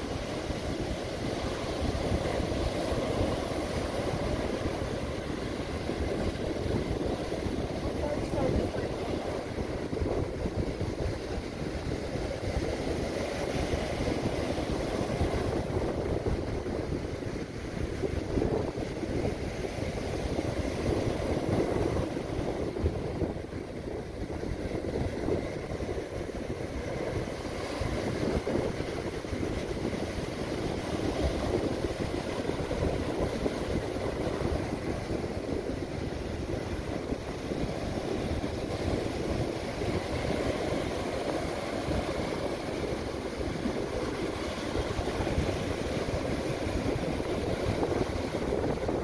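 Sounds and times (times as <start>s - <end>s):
surf breaking on beach: 0.0s - 49.0s.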